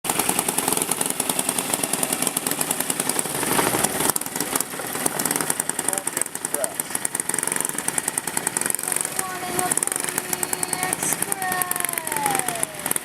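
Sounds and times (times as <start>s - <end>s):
lawn mower engines racing: 0.1s - 13.0s.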